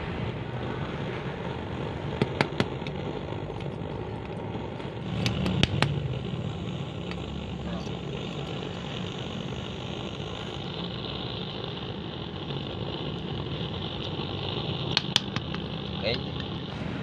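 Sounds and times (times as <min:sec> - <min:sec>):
motor drone: 0:00.0 - 0:17.0.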